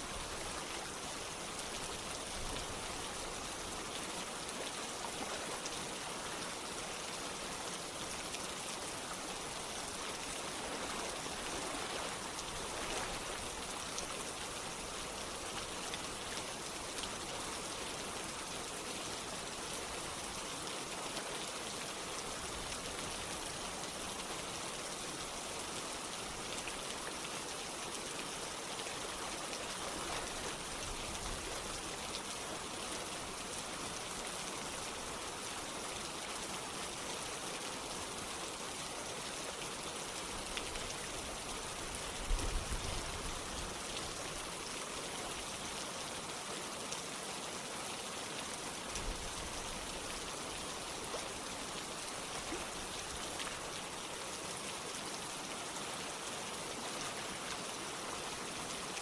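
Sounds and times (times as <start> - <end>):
running water: 0.0 - 59.0
steady rain: 0.0 - 59.0.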